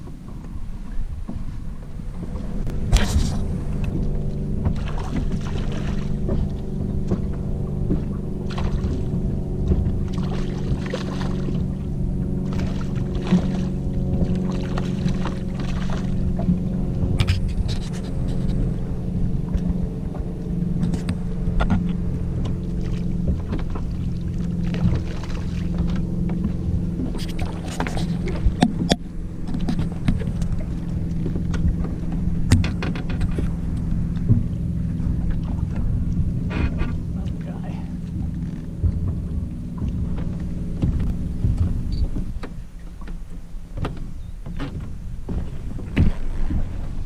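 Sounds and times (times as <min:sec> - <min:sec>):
boat motor humming: 0:00.0 - 0:47.0.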